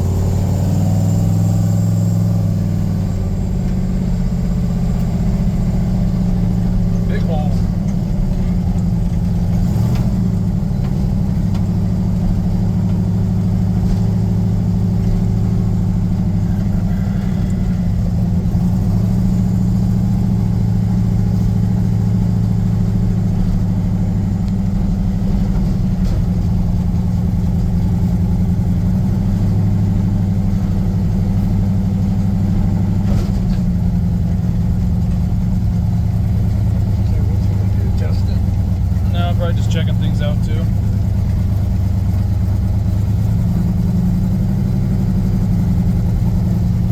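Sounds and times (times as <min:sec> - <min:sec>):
engine idling with deep rumble: 0:00.0 - 0:46.9.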